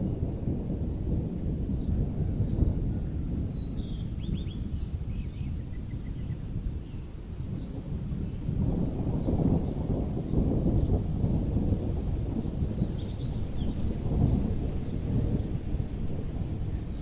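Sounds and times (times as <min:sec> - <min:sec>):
rolling thunder rumble: 0:00.0 - 0:17.0.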